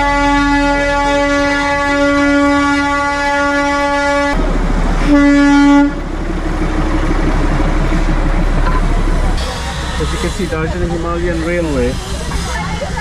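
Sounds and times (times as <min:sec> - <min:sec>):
train whistle blasts: 0:00.0 - 0:12.6
steady rushing noise: 0:00.0 - 0:13.0.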